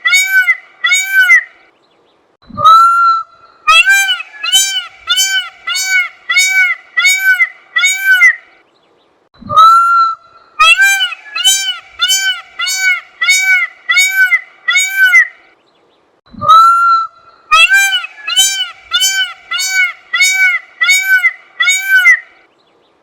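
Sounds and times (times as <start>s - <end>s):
peacock honking calls: 0.0s - 1.5s, 2.6s - 8.4s, 9.5s - 15.4s, 16.5s - 22.4s.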